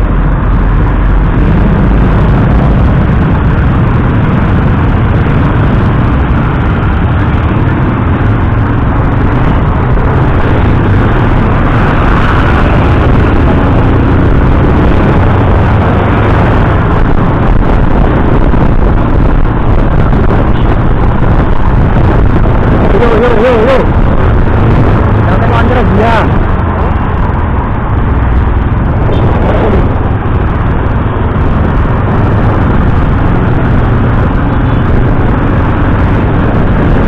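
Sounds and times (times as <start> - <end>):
motorcycle engine: 0.0 - 37.0
wind rushing over microphone: 0.0 - 37.0.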